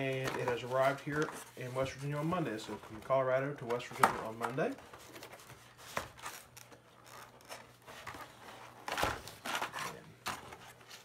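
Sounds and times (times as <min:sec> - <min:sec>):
cardboard rustling and scraping: 0:00.0 - 0:11.0.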